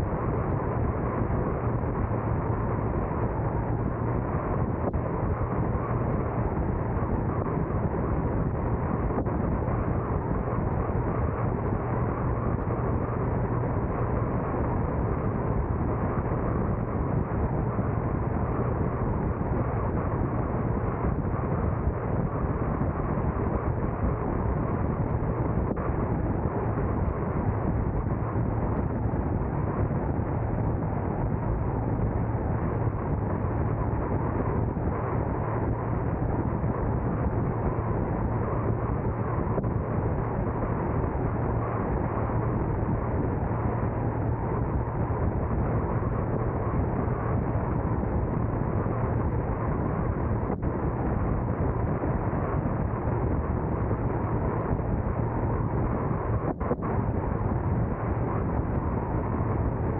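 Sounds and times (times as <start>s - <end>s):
car road and wind noise: 0.0s - 59.9s.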